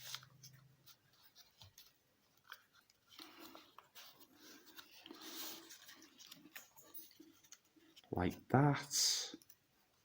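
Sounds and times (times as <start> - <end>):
paper crinkling and folding: 0.0 - 8.4.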